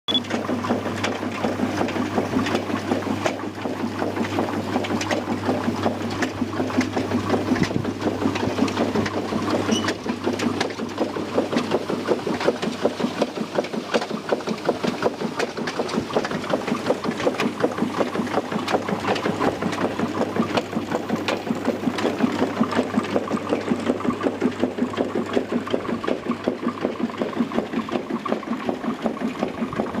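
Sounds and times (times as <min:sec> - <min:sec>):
potato grader screens rattling: 0:00.1 - 0:30.0.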